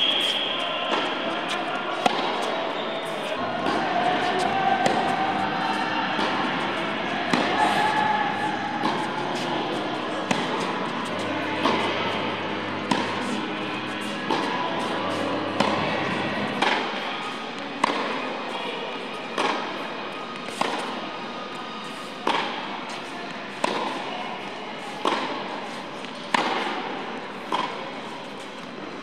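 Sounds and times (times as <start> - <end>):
tennis racket hitting ball: 0.2 - 18.2, 19.4 - 19.8, 20.4 - 21.0, 21.9 - 28.7.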